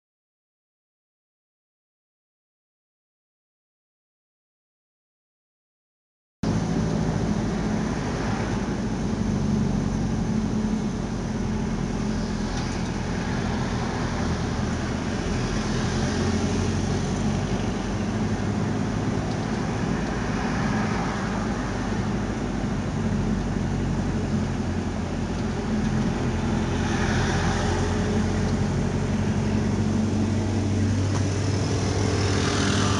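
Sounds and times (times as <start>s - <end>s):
car engine hum and road noise: 6.4s - 32.9s.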